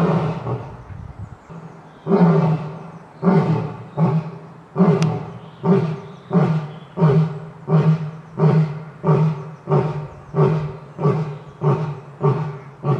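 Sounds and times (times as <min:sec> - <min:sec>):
lion grunting roars: 0:01.5 - 0:12.9.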